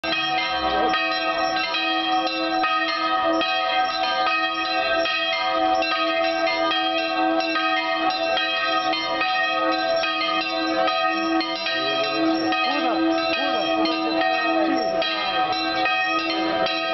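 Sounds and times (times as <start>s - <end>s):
church bells pealing: 0.0s - 16.9s
low bell tolling steadily: 0.0s - 16.9s.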